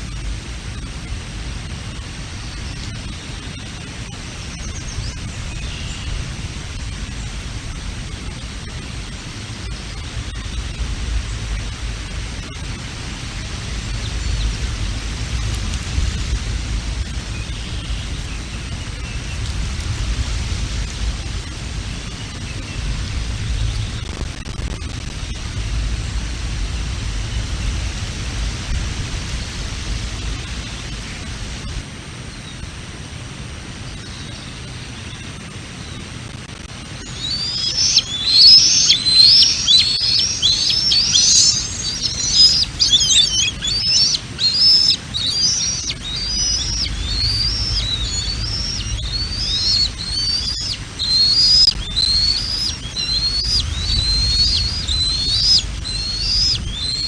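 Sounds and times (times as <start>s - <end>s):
strong wind buffeting microphone: 0.0s - 34.0s, 36.0s - 57.0s.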